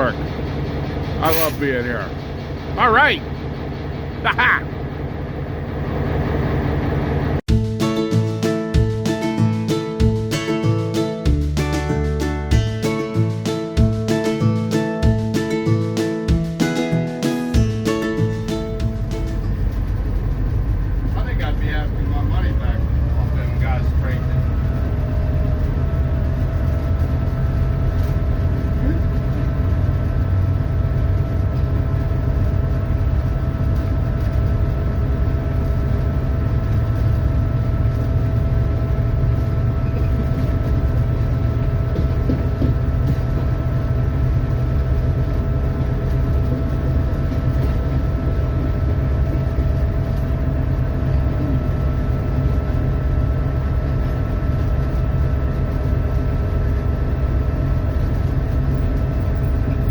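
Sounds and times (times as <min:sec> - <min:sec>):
steady whine: 0:00.0 - 0:07.4, 0:12.9 - 0:59.9
locomotive rumble inside cab: 0:00.0 - 0:59.9.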